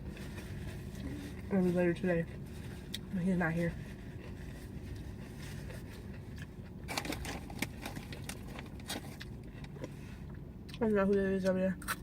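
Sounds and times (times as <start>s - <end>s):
food crackles and rustles: 0.0s - 10.4s
steady low hum: 0.0s - 12.0s.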